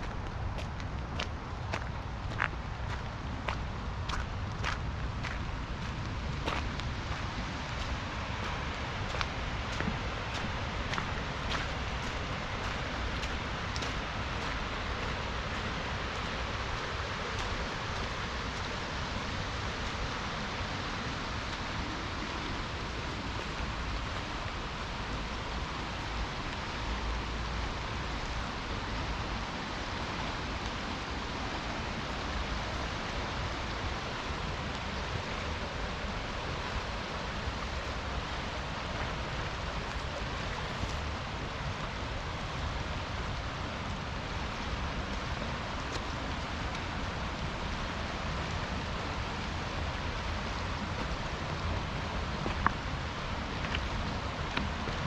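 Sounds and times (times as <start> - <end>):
rain falling: 0.0 - 55.0
river rushing: 0.0 - 55.0.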